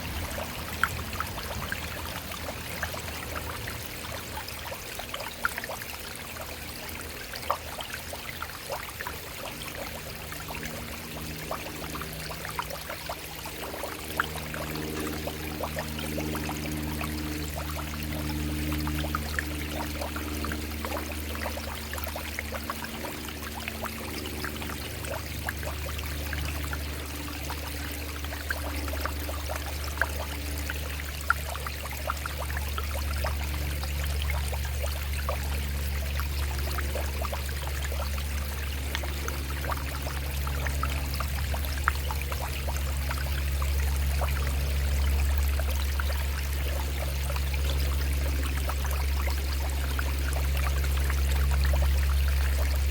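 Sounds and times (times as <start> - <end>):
stream running over rocks: 0.0 - 52.9
low hum: 9.0 - 52.9.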